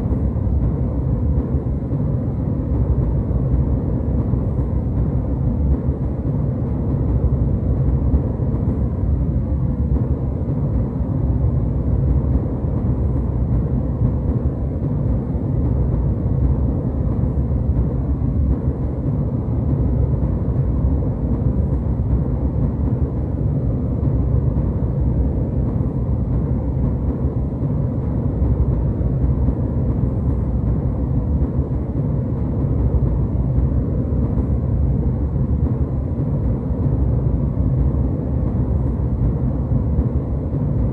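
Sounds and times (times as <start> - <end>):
jet airliner cabin rumble: 0.0 - 40.9.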